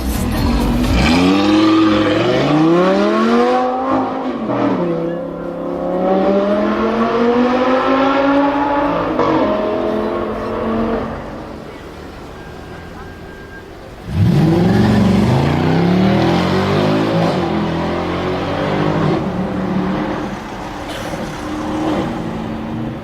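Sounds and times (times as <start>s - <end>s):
sports car engine accelerating: 0.1s - 11.8s, 14.0s - 23.0s.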